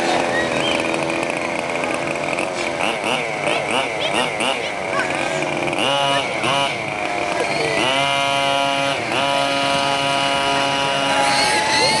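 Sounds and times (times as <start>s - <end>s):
radio-controlled buggy revving: 0.0s - 12.0s.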